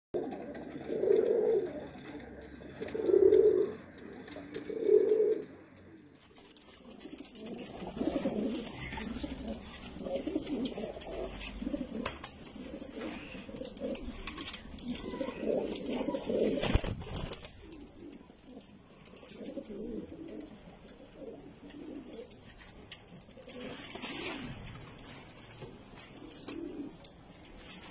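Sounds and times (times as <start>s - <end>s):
pigeons cooing: 0.2s - 24.8s, 26.1s - 27.2s.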